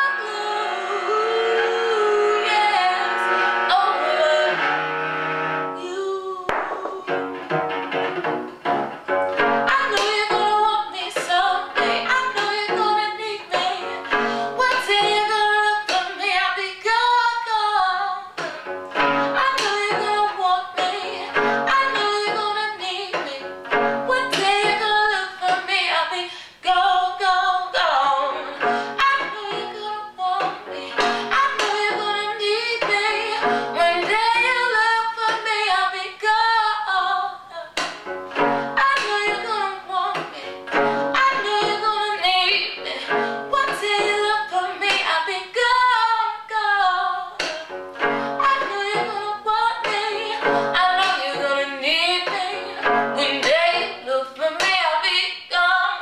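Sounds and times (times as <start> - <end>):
woman singing: 0.0 - 4.7, 5.8 - 7.4, 9.5 - 18.6, 19.3 - 56.0
cello accompaniment: 0.0 - 26.1, 26.7 - 37.0, 37.7 - 54.2.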